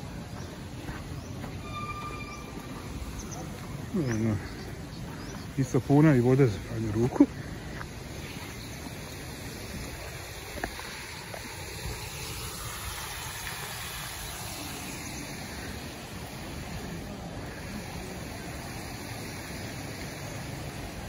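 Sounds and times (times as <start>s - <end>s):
water rushing through sluices: 0.0s - 21.0s.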